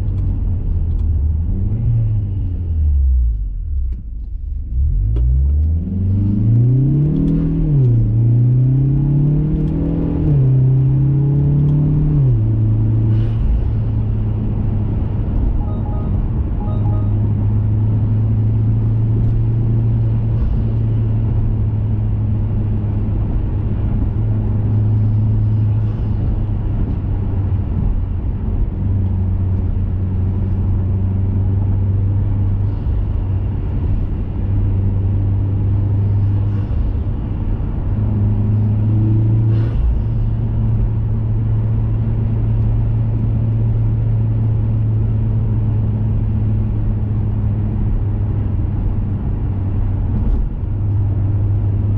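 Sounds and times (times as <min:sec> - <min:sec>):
car engine droning at cruise: 0:00.0 - 0:51.9.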